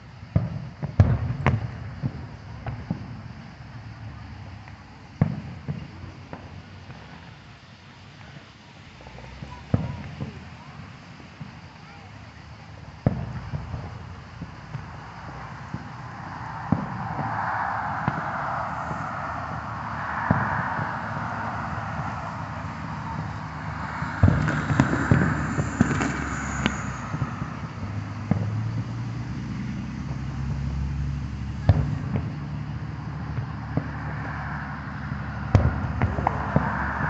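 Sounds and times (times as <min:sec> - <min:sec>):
distant fireworks bangs: 0:00.1 - 0:07.6, 0:09.0 - 0:37.0.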